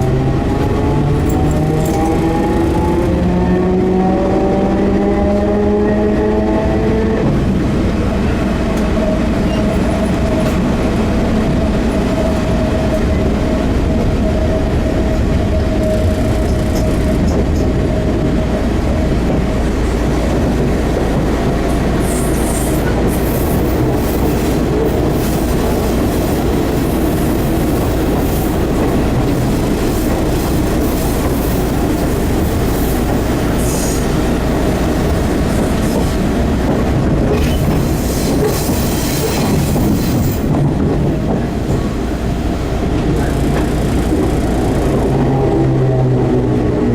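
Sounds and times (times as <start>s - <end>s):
train drive whine: 0.0s - 46.9s
train wheels rumbling on rail: 0.0s - 46.9s.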